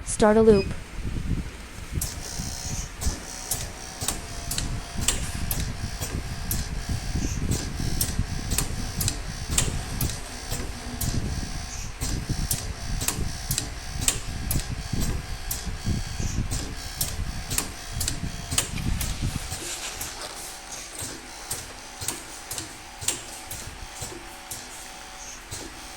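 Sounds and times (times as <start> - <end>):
testing machine clicking: 2.0 - 20.1, 21.0 - 25.9.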